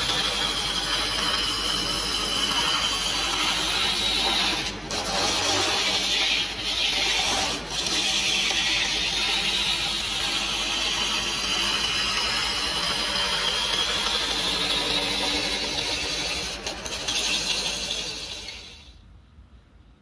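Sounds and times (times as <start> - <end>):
gouge scraping wood on lathe: 0.0 - 18.8.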